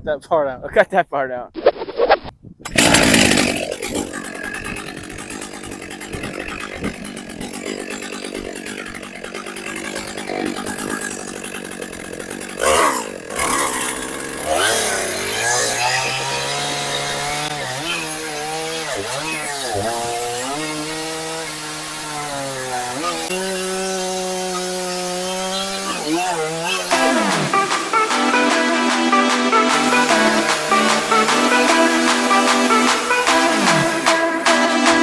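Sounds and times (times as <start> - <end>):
chainsaw cutting a log: 2.7 - 35.0.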